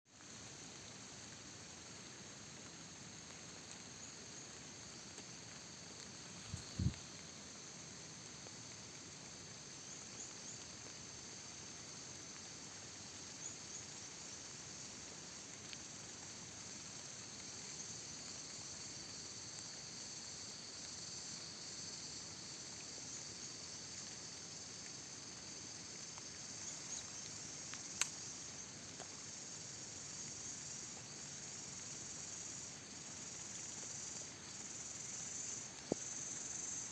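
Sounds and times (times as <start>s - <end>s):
insects chirring: 0.2s - 36.9s.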